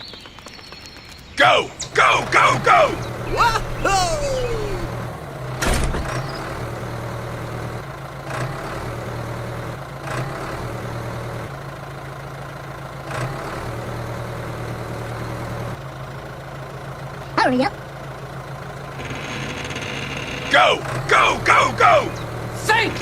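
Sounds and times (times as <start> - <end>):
engine idling: 1.3 - 23.0.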